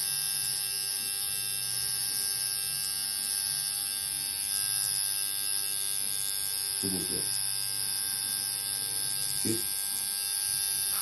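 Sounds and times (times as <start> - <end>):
handheld electric tool buzzing: 0.0 - 11.0.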